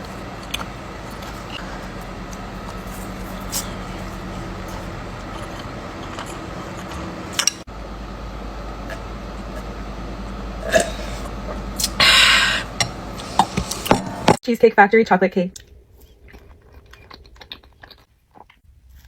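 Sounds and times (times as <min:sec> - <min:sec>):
person eating: 0:00.0 - 0:07.7, 0:08.8 - 0:14.0, 0:15.6 - 0:19.0
steady low hum: 0:00.0 - 0:18.0.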